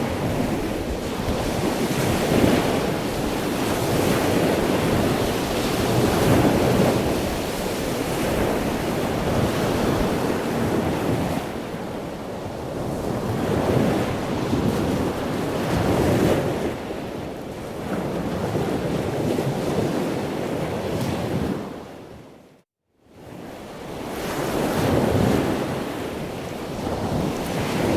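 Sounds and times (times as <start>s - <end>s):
wind buffeting microphone: 0.0s - 22.3s, 24.0s - 27.9s.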